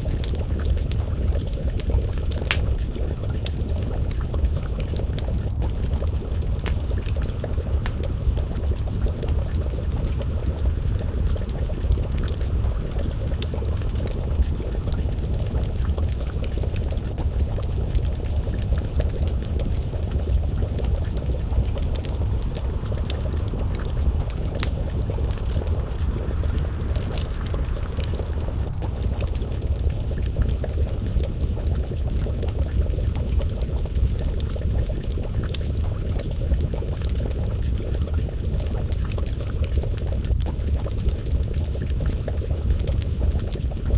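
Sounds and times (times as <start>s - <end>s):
stew pot simmering: 0.0s - 43.9s
wood fire crackling: 0.0s - 43.9s.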